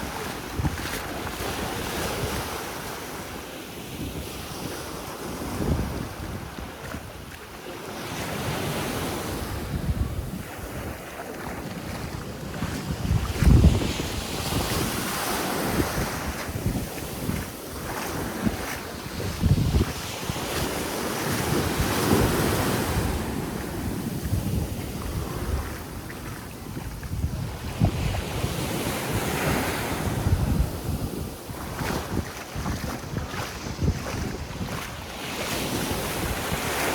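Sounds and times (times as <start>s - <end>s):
wind gusting against microphone: 0.0s - 2.6s, 8.4s - 11.0s, 11.7s - 36.9s
sea waves washing onto beach: 0.0s - 36.9s.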